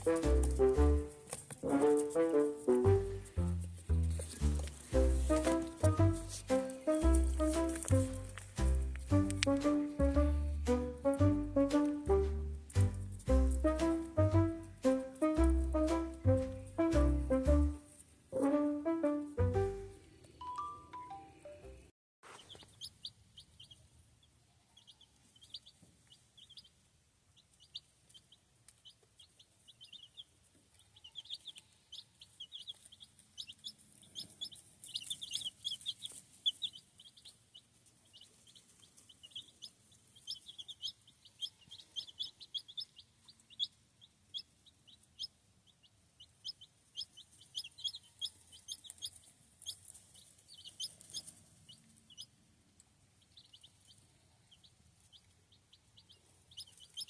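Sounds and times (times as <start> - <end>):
chicks peeping: 0.0 - 20.3, 22.3 - 57.0.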